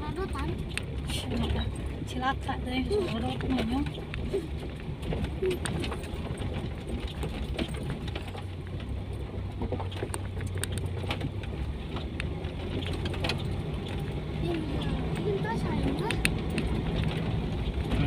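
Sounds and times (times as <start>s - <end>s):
car engine hum: 0.0s - 18.0s
car knocks and rattles: 0.0s - 18.0s.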